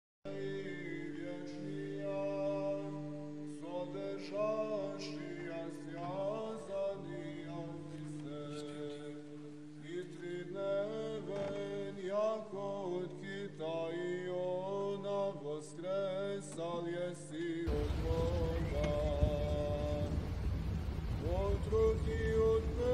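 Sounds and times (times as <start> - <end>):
voices chanting over a drone: 0.3 - 22.9.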